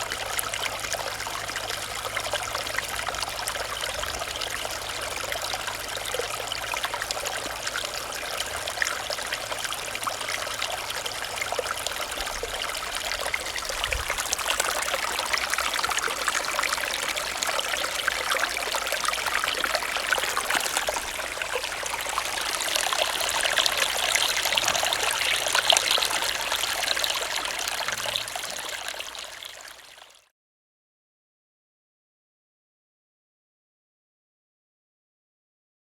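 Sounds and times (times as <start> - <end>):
stream babbling: 0.0 - 30.2.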